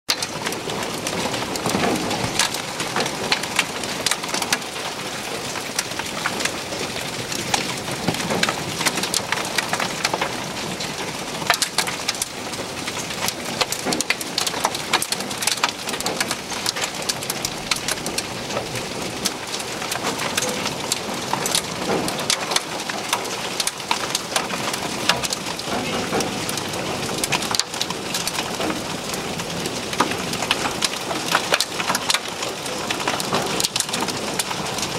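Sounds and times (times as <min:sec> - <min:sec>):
hailstones ticking on car roof: 0:00.1 - 0:34.9.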